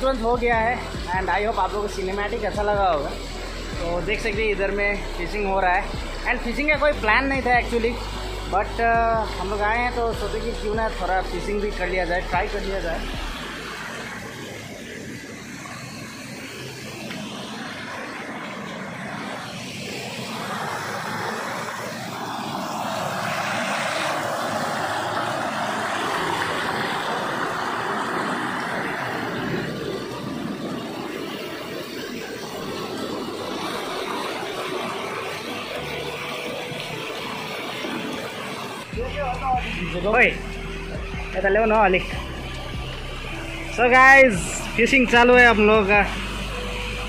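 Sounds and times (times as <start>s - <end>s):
mountain stream rushing over rocks: 0.0s - 47.0s.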